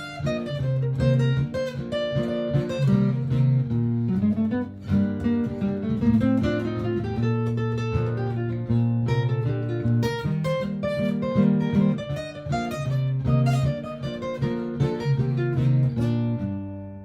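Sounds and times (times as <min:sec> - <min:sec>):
picked guitar notes: 0:00.0 - 0:17.0.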